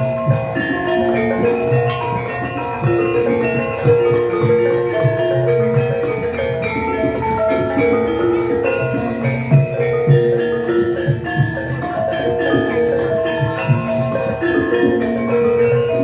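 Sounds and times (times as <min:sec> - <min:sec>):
bronze metallophones ringing: 0:00.0 - 0:16.0
hand drum strokes: 0:00.0 - 0:16.0.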